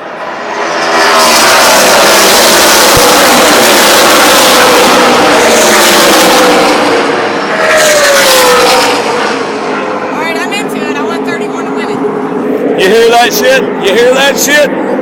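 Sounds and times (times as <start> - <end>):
race trucks passing at speed: 0.0 - 15.0.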